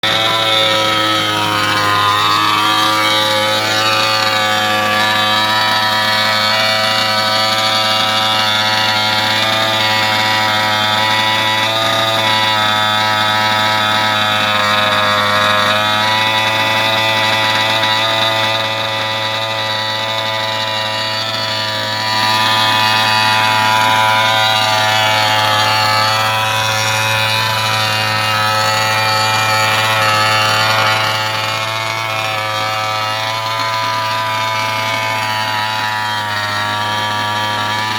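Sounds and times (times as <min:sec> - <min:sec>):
two-stroke engine running: 0:00.0 - 0:37.9.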